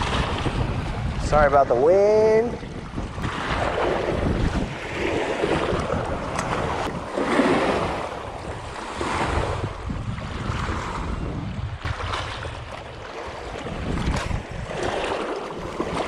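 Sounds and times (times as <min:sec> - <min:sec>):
small waves lapping on rocks: 0:00.0 - 0:11.1, 0:11.8 - 0:16.0
wind buffeting microphone: 0:00.0 - 0:16.0.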